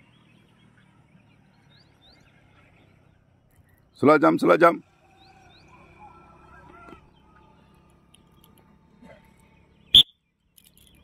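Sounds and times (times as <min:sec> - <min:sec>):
distant bird calls: 0:00.0 - 0:11.0.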